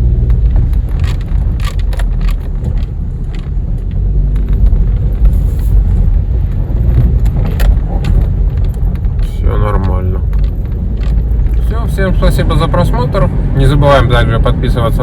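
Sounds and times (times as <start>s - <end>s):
car driving slowly rumble: 0.0s - 15.0s.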